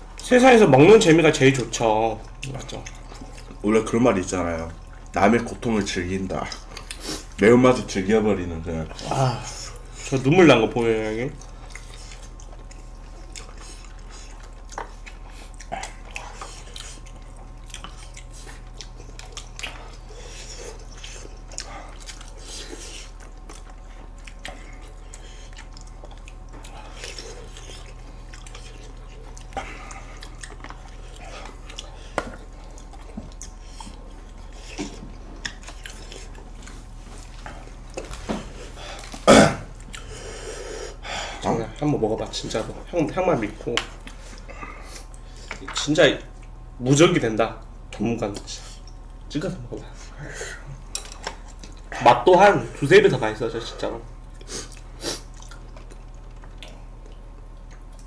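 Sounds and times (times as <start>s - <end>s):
people chewing: 0.0s - 46.8s, 47.6s - 58.0s.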